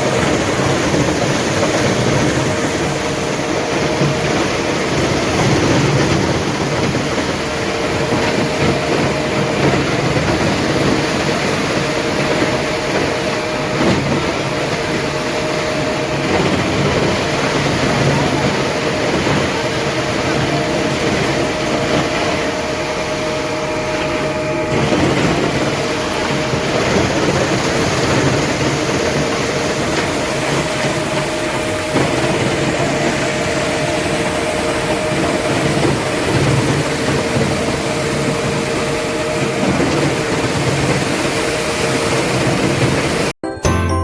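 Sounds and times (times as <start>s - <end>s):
machine running loudly: 0.0s - 43.4s.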